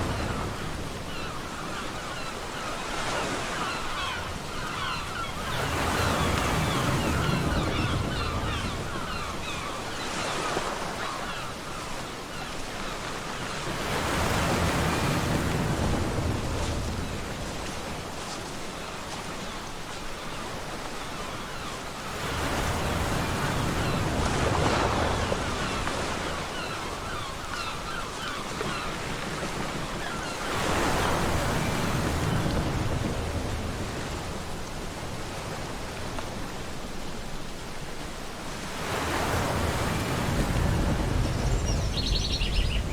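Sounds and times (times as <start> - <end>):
ocean waves breaking on beach: 0.0 - 42.9.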